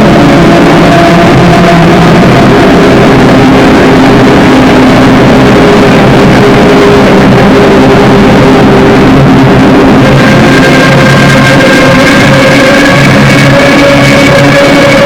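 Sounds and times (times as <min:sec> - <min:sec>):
dense distorted drone noise: 0:00.0 - 0:15.0
low held tones: 0:00.0 - 0:15.0.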